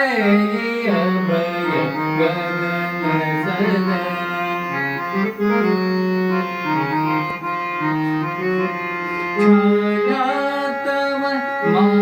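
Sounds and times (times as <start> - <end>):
keyboard harmonium melody: 0.0 - 12.0.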